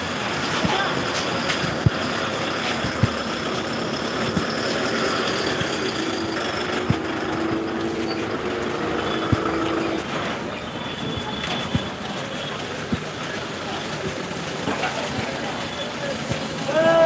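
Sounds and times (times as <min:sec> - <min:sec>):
low engine-like tone: 0:00.0 - 0:14.3
street traffic noise: 0:00.0 - 0:17.0.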